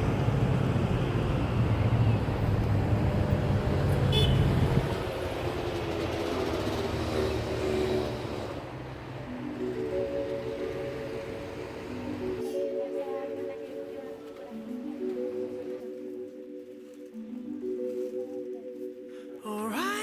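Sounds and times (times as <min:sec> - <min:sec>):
rumble of road vehicles: 0:00.0 - 0:18.6.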